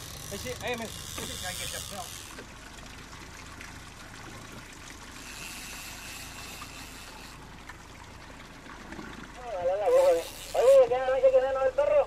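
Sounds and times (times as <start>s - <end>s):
sea water washing around boat: 0.0s - 12.0s.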